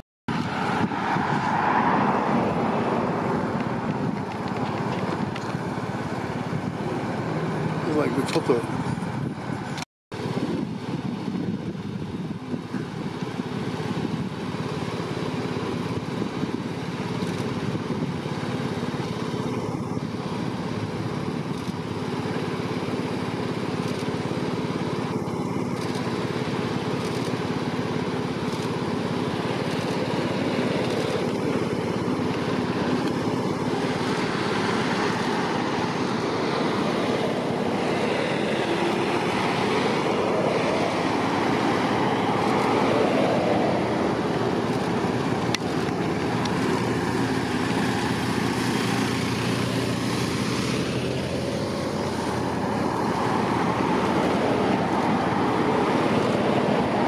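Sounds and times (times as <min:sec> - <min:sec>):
motorcade engines driving past: 0:00.3 - 0:57.0.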